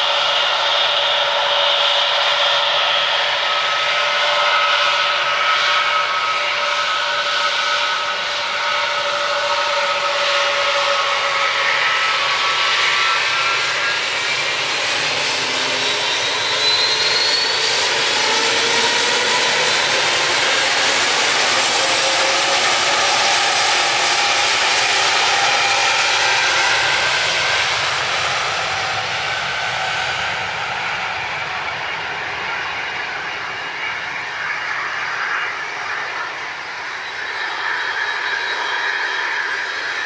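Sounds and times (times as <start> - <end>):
jet engine roar: 0.0 - 40.0
whining fan tone: 0.0 - 40.0.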